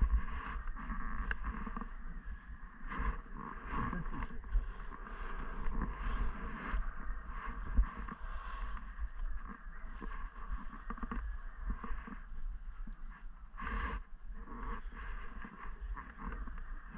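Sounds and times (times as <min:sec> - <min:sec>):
wind on microphone: 0:00.0 - 0:16.9.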